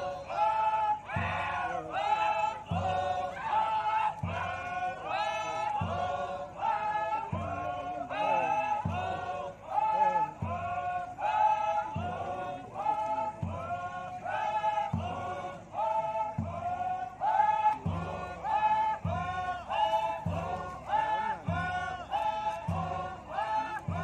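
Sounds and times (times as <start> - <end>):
group chanting in unison: 0.0 - 24.0
low beat: 0.0 - 24.0.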